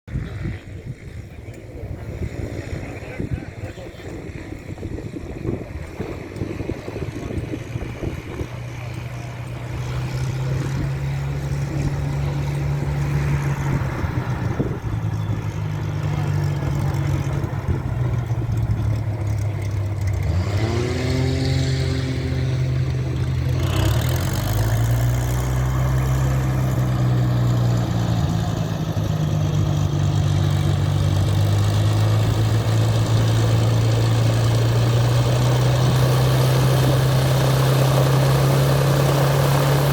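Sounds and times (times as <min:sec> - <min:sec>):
aircraft engine and propeller droning: 0:00.1 - 0:39.9.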